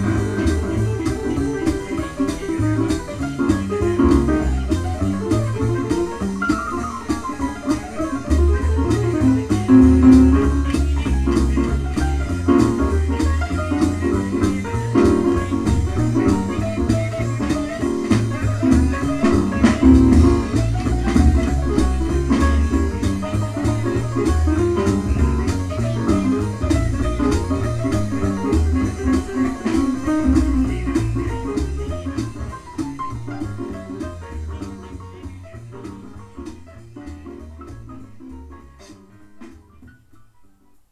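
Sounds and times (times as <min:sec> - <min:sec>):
plucked double bass: 0:00.0 - 0:06.7, 0:08.1 - 0:38.8
drums and cymbals: 0:00.0 - 0:39.6
piano: 0:00.0 - 0:40.9.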